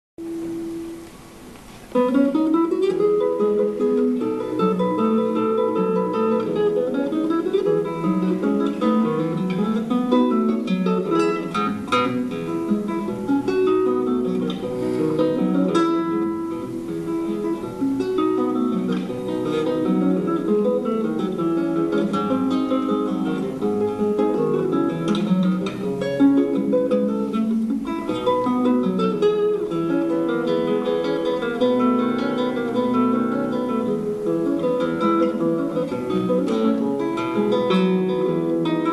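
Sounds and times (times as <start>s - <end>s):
solo classical guitar: 0.2s - 38.9s.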